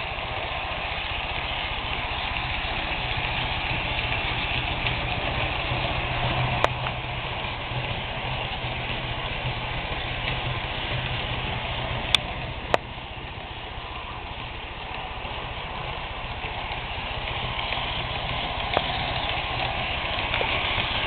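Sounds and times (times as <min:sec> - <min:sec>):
model train motor hum: 0:00.0 - 0:21.0
wheels whirring on rails: 0:00.0 - 0:21.0.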